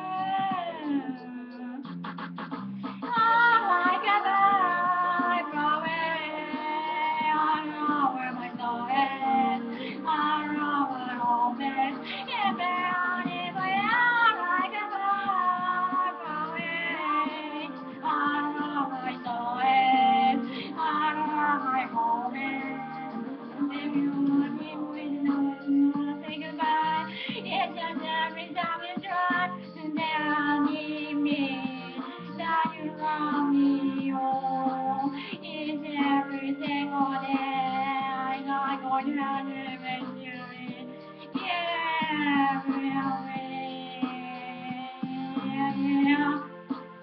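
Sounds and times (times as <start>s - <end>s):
woman singing: 0.0s - 1.9s, 3.0s - 46.8s
instrumental backing music: 0.0s - 47.0s.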